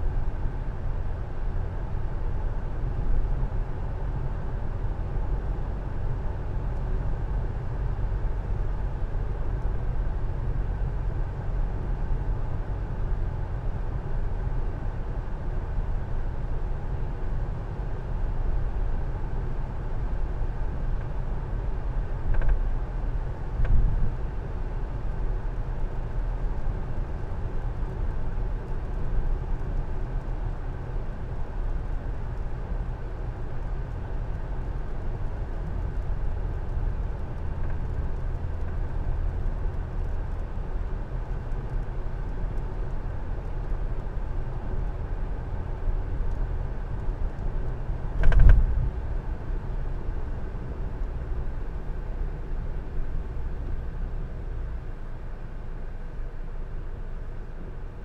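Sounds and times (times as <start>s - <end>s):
car cabin road noise: 0.0s - 58.0s.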